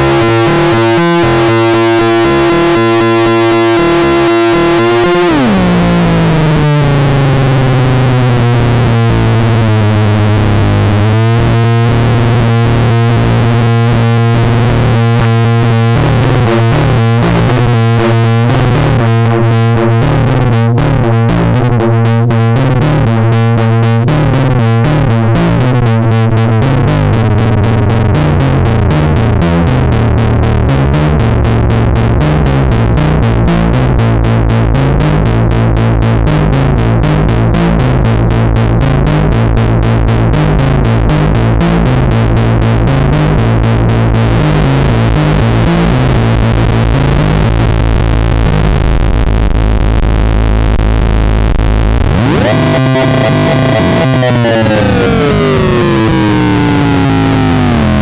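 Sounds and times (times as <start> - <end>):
distorted synth drone: 0.0 - 58.0
pulsing sequenced synth pattern: 0.0 - 58.0.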